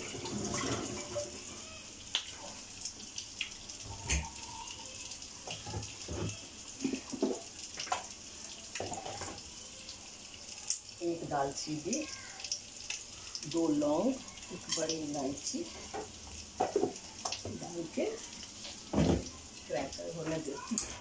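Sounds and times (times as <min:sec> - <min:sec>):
cooking oil sizzling: 0:00.0 - 0:21.0.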